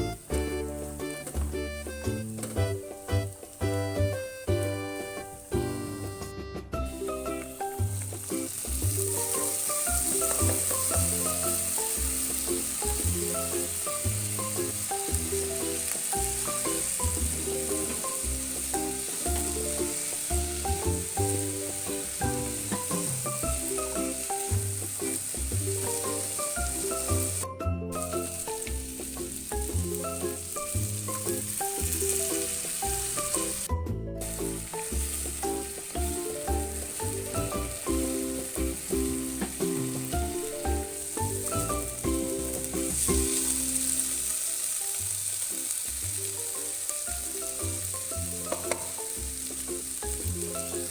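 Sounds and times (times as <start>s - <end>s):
background music with bass: 0.0s - 44.3s, 45.9s - 50.9s
food sizzling in a frying pan: 0.0s - 50.9s.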